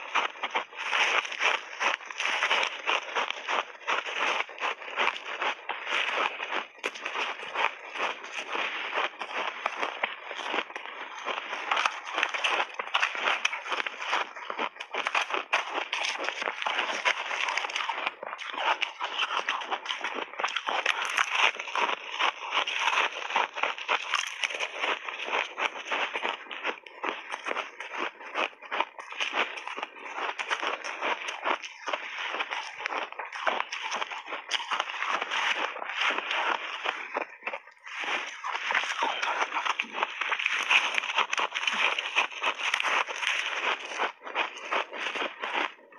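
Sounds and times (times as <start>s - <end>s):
chewing ice crunches: 0.0s - 45.9s.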